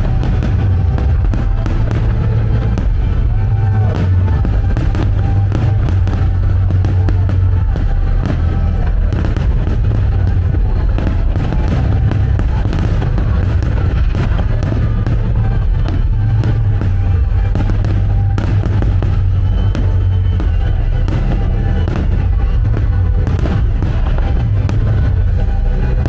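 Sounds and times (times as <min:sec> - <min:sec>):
fireworks bangs and crackles: 0:00.0 - 0:26.0
music with heavy bass: 0:00.0 - 0:26.0.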